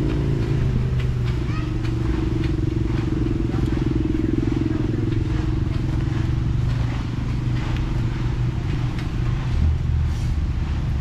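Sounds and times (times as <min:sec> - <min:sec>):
racing engine idling roughly: 0:00.0 - 0:11.0.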